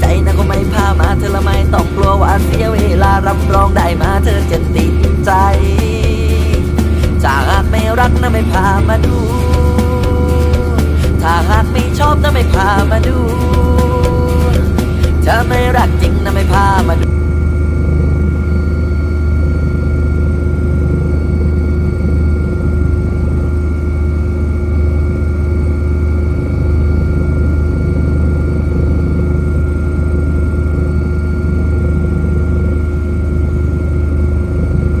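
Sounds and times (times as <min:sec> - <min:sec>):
light aircraft engine drone: 0:00.0 - 0:35.0.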